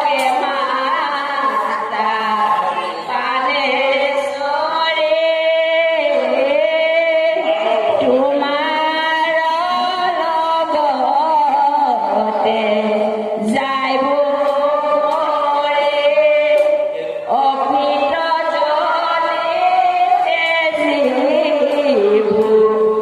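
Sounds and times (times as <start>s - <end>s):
person chant-singing: 0.0s - 23.0s.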